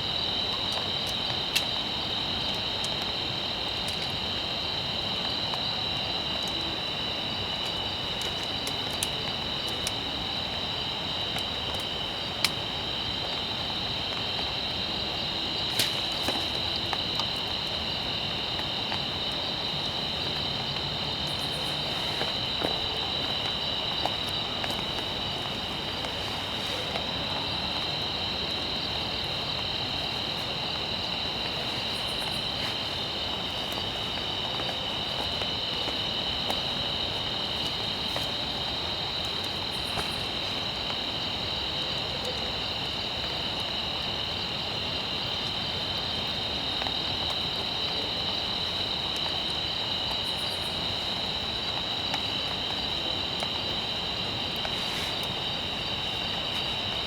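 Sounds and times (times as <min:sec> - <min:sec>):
insect chorus trilling: 0:00.0 - 0:57.0.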